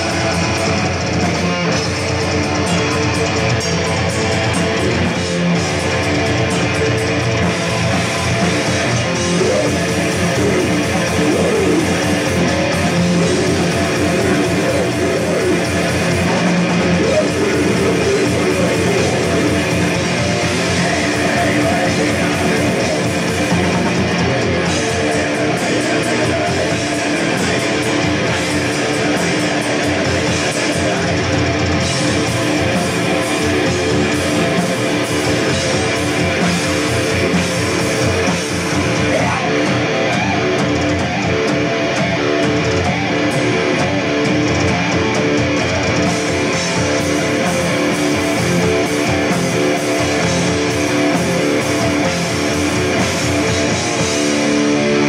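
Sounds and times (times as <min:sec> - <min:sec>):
distorted electric guitar: 0:00.0 - 0:55.0
drums and cymbals: 0:00.0 - 0:55.0.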